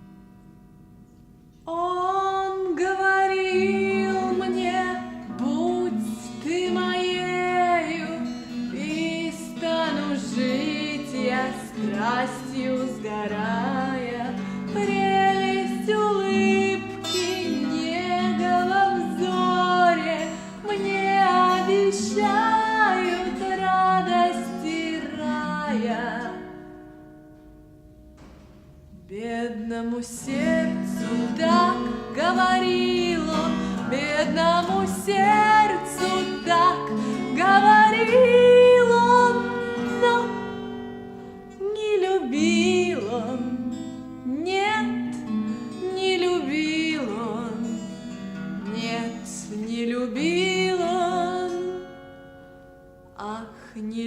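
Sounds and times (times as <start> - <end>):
guitar accompaniment: 0.0 - 54.0
woman singing: 1.7 - 26.9, 28.9 - 52.2, 53.2 - 54.0.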